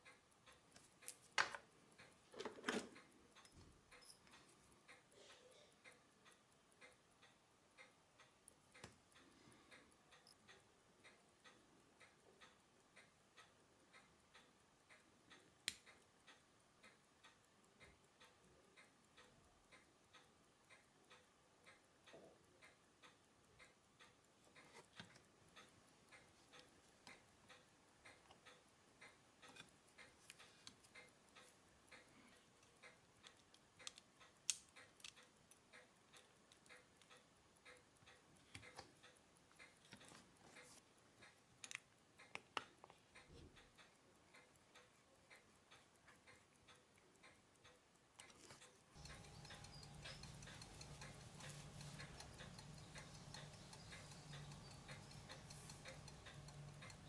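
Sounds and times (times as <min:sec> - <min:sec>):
pocket watch ticking: 0:00.0 - 0:57.0.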